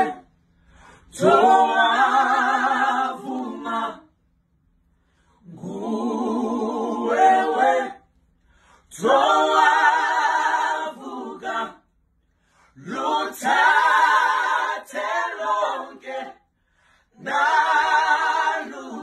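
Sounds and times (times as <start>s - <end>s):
a cappella vocal group singing: 0.0s - 19.0s.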